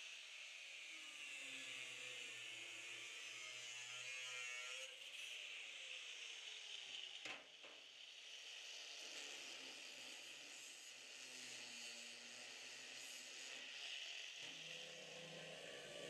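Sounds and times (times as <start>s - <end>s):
angle grinder cutting steel: 1.6s - 7.2s, 8.5s - 16.0s.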